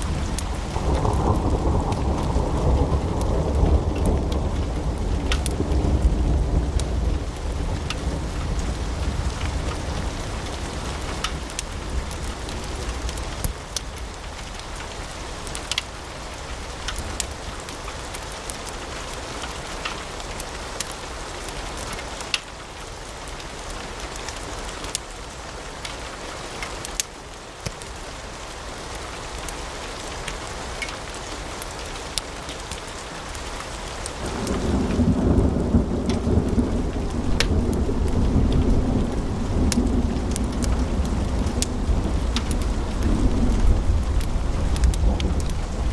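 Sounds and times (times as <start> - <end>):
wood fire crackling and popping: 0.0 - 22.9, 30.2 - 45.9.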